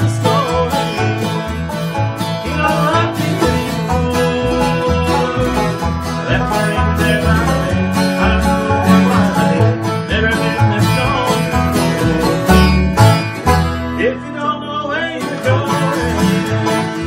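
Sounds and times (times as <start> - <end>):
acoustic guitar strumming: 0.0 - 17.0
banjo picking: 0.0 - 17.0
bluegrass band playing: 0.0 - 17.0
upright bass notes: 0.0 - 17.0.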